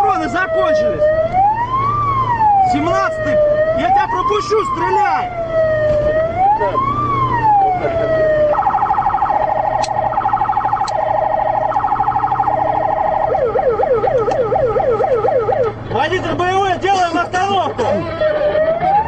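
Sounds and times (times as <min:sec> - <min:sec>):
police siren wailing and yelping: 0:00.0 - 0:19.0.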